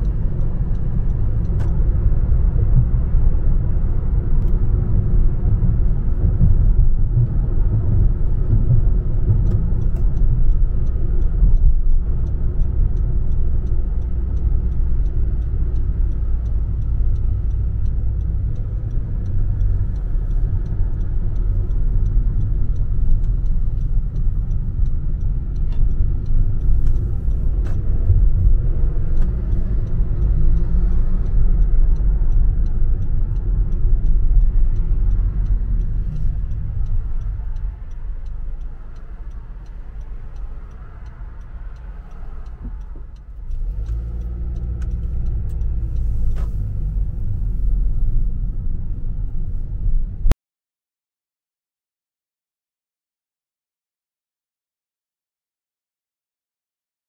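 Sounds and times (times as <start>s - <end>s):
fast light ticking: 0.0s - 50.3s
car road and engine noise: 0.0s - 50.4s.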